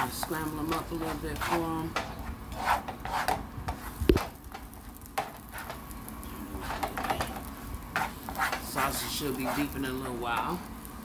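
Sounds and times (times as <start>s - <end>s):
spatula scraping skillet: 0.0s - 5.9s, 6.5s - 10.6s
eggs sizzling: 0.0s - 11.0s.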